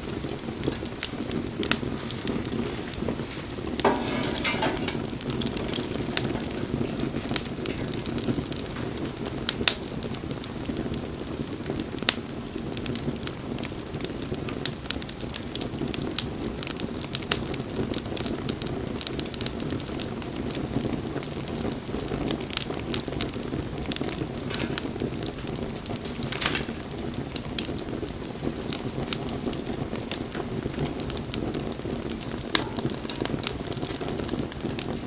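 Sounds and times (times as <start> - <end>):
bonfire flame rushing: 0.0 - 35.0
burning wood crackling and popping: 0.0 - 35.0.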